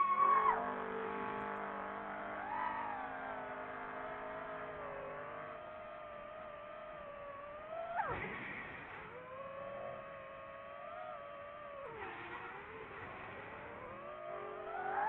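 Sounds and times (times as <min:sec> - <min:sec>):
motor revving: 0:00.0 - 0:15.0.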